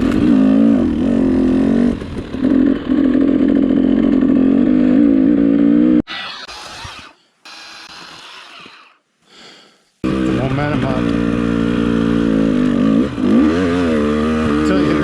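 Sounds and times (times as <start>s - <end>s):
dirt bike engine revving: 0.0s - 9.0s, 10.0s - 15.0s.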